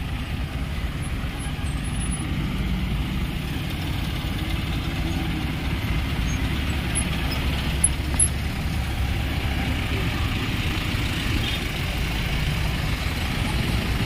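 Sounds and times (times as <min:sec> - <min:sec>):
truck engines idling: 0:00.0 - 0:14.0.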